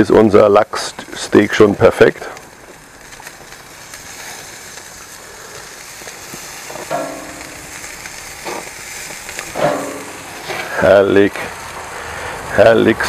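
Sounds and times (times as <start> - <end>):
fish sizzling on a grill: 0.0 - 13.0.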